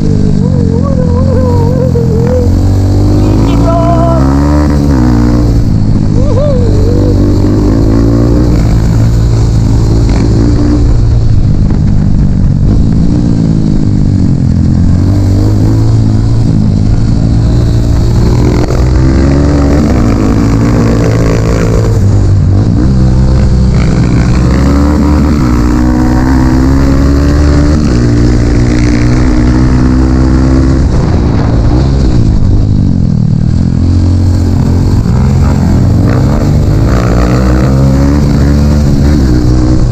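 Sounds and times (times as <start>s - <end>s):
dirt bike engine revving: 0.0s - 11.4s, 12.6s - 32.6s, 33.4s - 39.9s.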